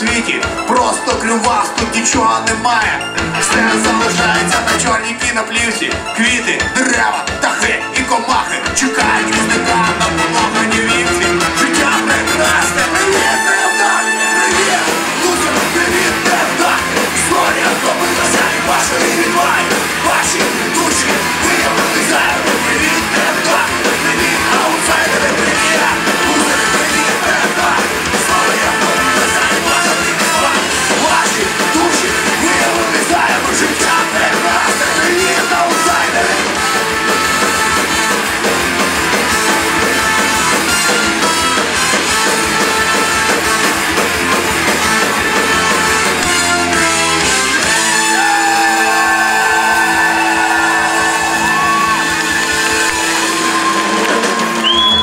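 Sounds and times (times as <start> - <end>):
live ska-punk band playing: 0.0 - 55.0
trumpet: 3.2 - 5.3, 8.4 - 55.0.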